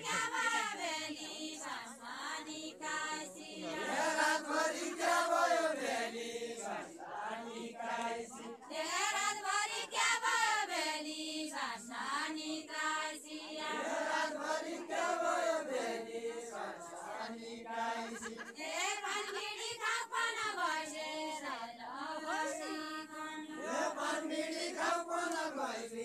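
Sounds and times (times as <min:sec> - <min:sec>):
group singing without instruments: 0:00.0 - 0:26.0.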